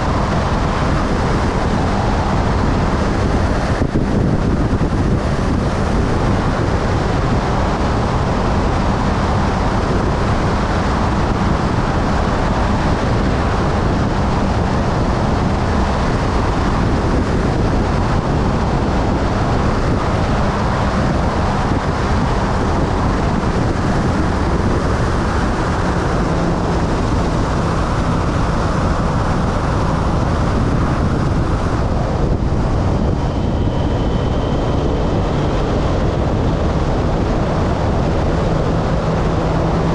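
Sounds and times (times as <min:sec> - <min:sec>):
motorcycle engine hum: 0:00.0 - 0:39.9
wind rushing on microphone: 0:00.0 - 0:39.9.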